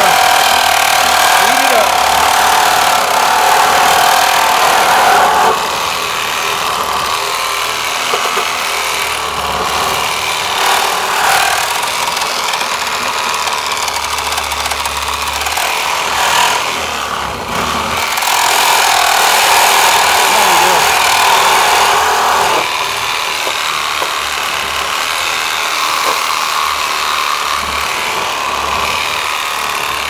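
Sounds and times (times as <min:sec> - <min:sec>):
chop saw cutting wood: 0:00.0 - 0:30.0.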